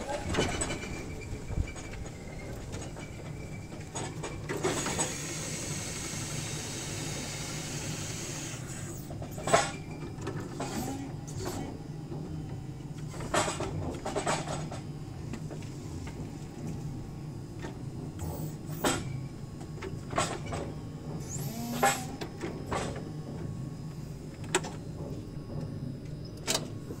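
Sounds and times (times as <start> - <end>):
forklift running hum: 0.0 - 27.0.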